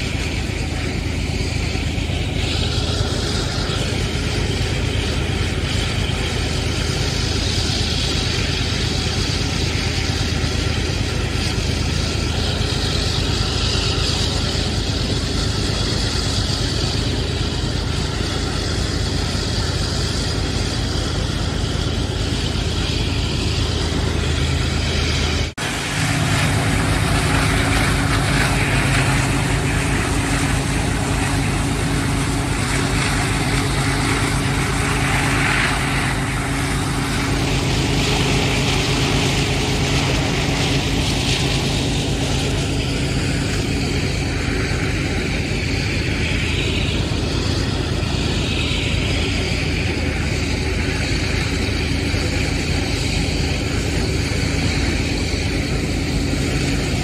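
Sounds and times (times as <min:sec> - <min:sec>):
diesel locomotive engines running: 0:00.0 - 0:57.0
steady rushing noise: 0:00.0 - 0:57.0.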